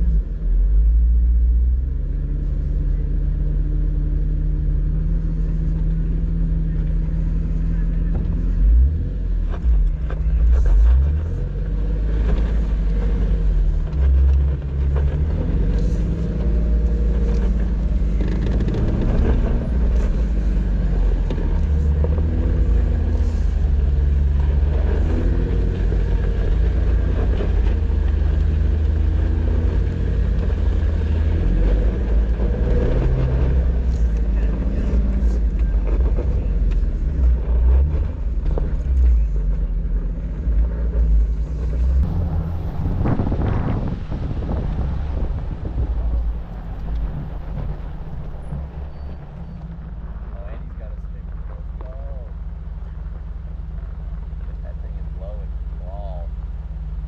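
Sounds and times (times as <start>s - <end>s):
off-road vehicle engine rumbling: 0.0s - 57.0s.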